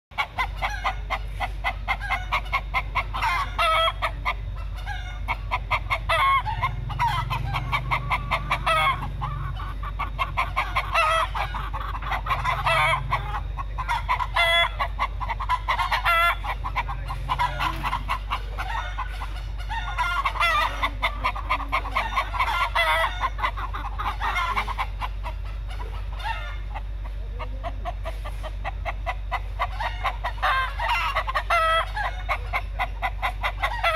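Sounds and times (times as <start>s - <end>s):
chickens clucking: 0.1s - 33.9s
steady low hum: 0.1s - 33.9s.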